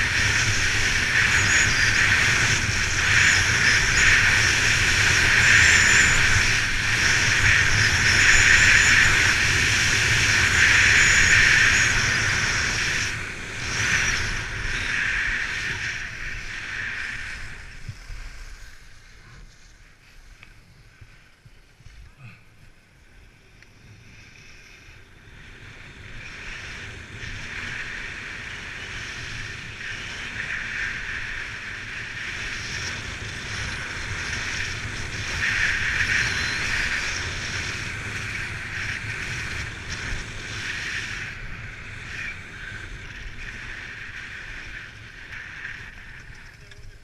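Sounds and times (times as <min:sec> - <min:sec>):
low wind rumble on microphone: 0:00.0 - 0:47.0
skis scraping on packed snow: 0:00.0 - 0:47.0.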